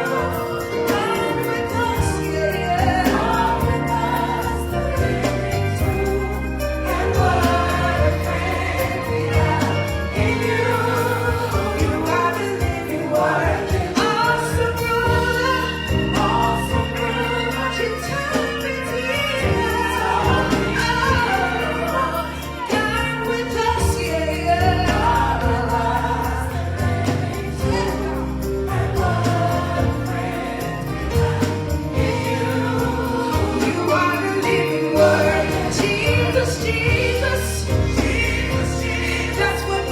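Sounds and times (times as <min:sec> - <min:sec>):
band accompaniment: 0:00.0 - 0:39.9
choir singing: 0:00.0 - 0:39.9
steady bass: 0:00.0 - 0:39.9.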